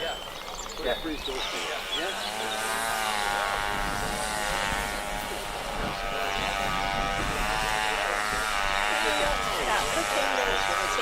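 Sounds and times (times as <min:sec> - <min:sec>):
small engine buzzing: 0:00.0 - 0:11.0.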